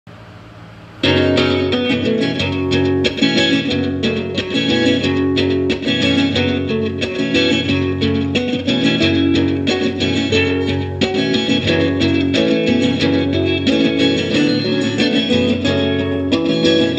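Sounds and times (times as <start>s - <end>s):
guitar-led music: 1.0s - 16.9s.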